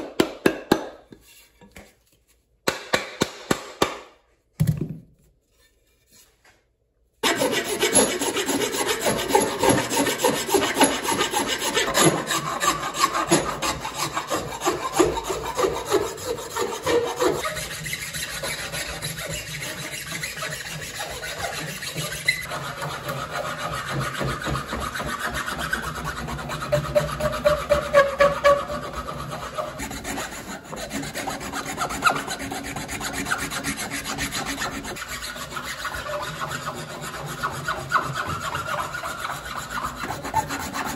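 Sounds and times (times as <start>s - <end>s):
rasp scraping wood: 7.2s - 40.9s.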